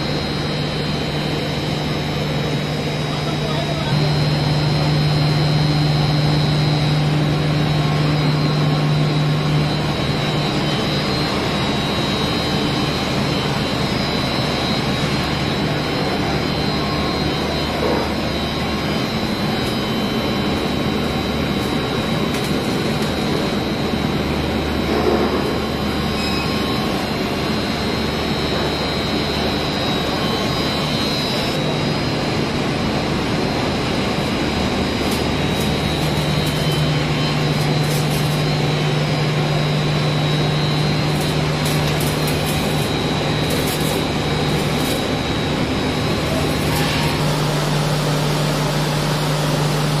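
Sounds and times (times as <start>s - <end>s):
thin high whine: 0.0s - 50.0s.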